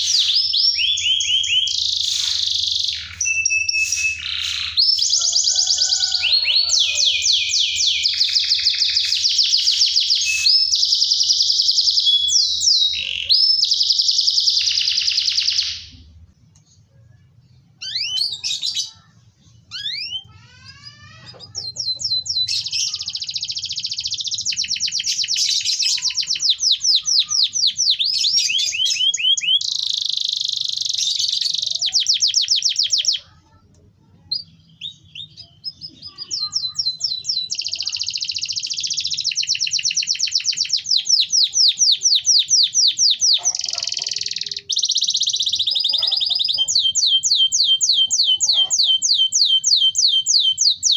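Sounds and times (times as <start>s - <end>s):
canary singing trills: 0.0s - 16.1s, 17.3s - 50.9s.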